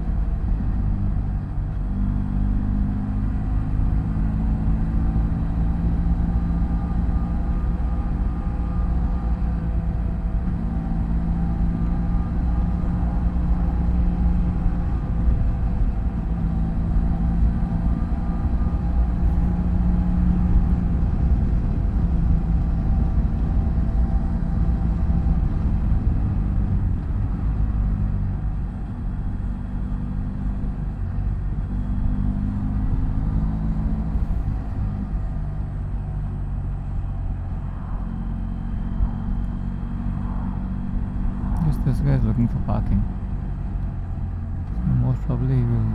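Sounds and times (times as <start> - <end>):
road rumble: 0.0 - 45.9
wind: 0.0 - 45.9.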